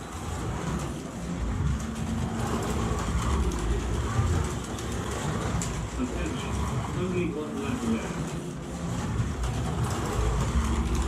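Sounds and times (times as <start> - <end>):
slot car rumbling on track: 0.0 - 11.0.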